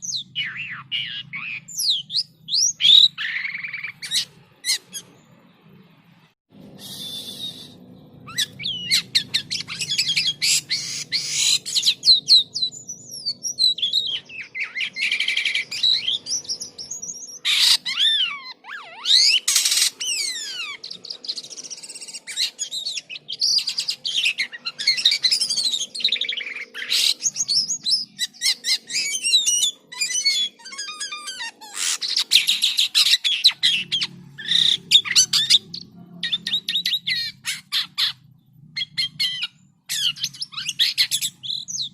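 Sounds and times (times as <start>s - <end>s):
starling singing: 0.0s - 5.6s, 6.6s - 41.9s.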